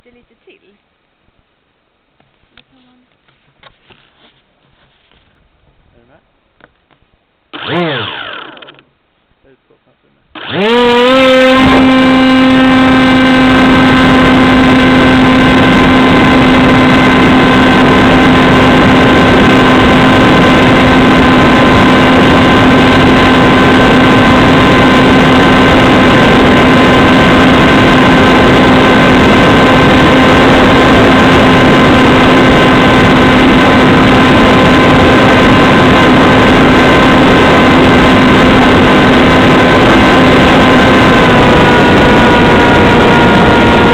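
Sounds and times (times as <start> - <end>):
electric motor and propeller whine: 7.5 - 9.2, 10.3 - 43.9.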